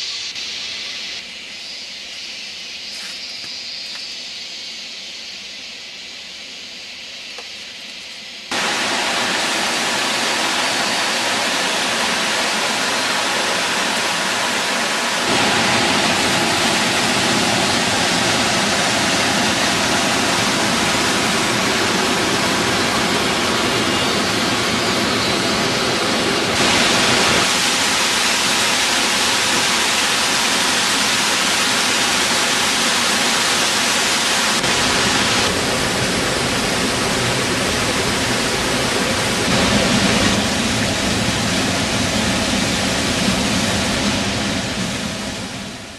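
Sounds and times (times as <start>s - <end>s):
waterfall rushing over rocks: 8.5s - 45.5s.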